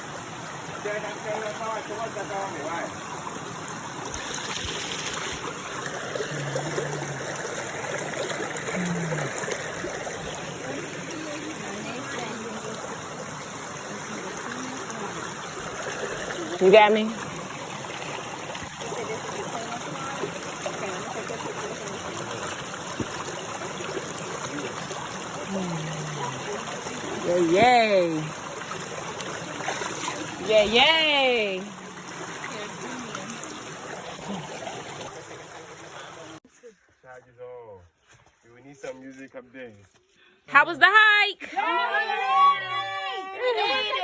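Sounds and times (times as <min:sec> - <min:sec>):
flowing water rushing: 0:00.0 - 0:36.4.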